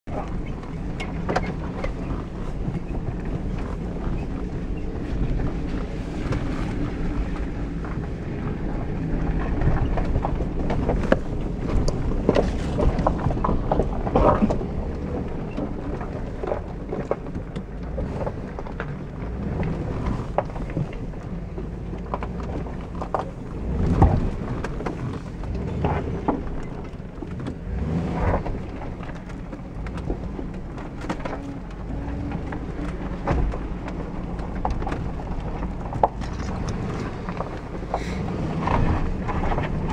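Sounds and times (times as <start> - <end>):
engine and drivetrain rumble: 0.0 - 39.9.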